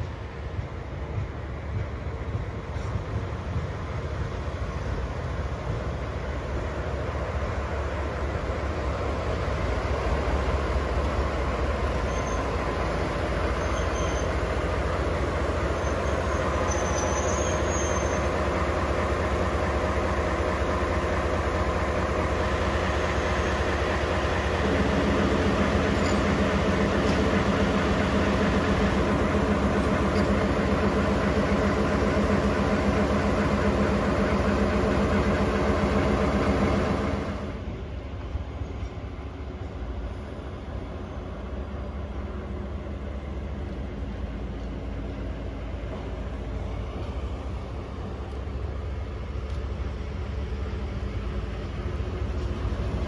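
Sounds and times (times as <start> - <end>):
locomotive rumbling past: 0.0 - 53.0.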